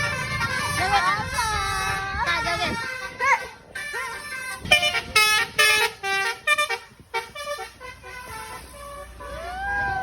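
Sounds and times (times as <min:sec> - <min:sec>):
bus musical horn: 0:00.0 - 0:10.0.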